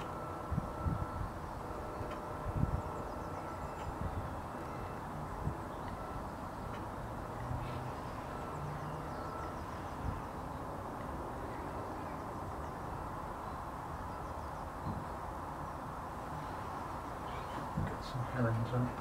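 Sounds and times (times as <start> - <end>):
distant bird calls: 0.0 - 19.0
steady outdoor background noise: 0.0 - 19.0.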